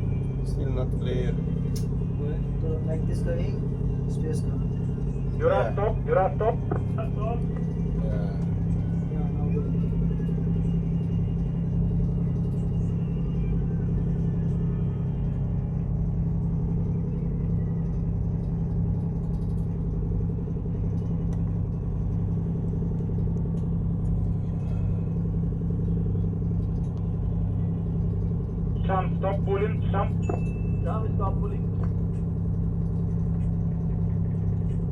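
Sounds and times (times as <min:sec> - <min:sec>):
ship engine drone: 0:00.0 - 0:34.9.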